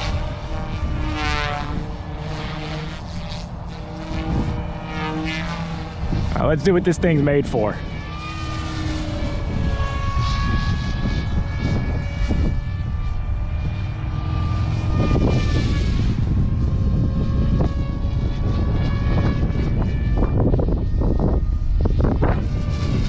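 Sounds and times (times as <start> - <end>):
low wind rumble: 0.0 - 23.0
rc helicopter rotor whine: 0.0 - 23.0.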